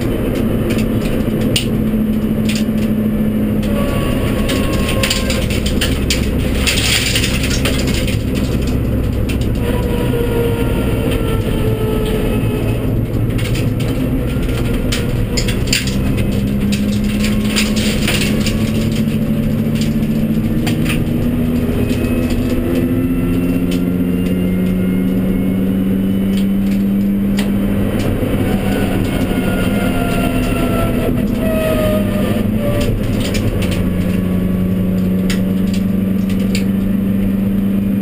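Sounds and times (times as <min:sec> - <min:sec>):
car engine running hard: 0:00.0 - 0:38.0
road and tyre noise: 0:00.0 - 0:38.0
sharp clicks and rattles: 0:00.0 - 0:38.0.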